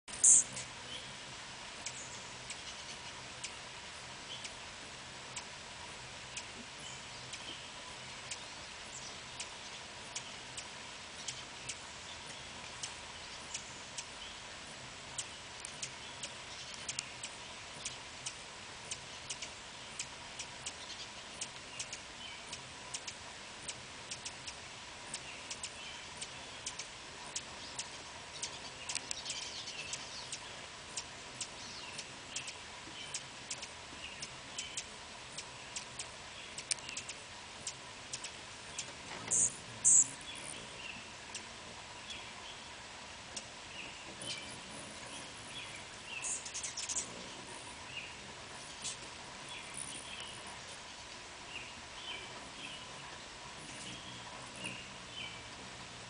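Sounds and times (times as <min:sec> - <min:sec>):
hummingbird squeaky chatter: 0:00.1 - 0:04.6, 0:05.2 - 0:41.5, 0:43.3 - 0:51.1, 0:51.7 - 0:55.9
hummingbird ticks: 0:00.1 - 0:56.0.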